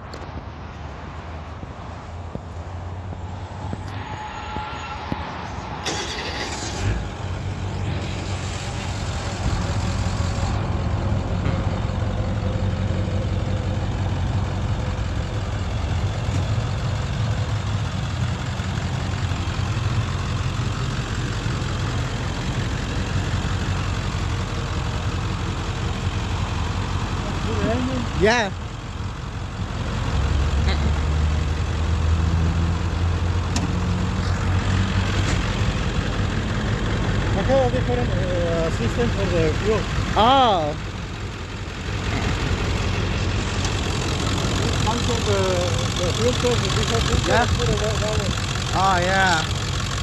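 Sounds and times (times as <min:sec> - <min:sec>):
diesel engine running: 0:03.0 - 0:50.0.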